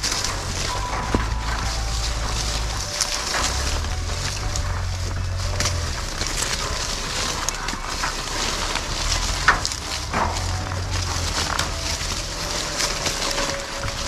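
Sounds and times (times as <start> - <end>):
leaves and branches rustling: 0.0 - 14.0.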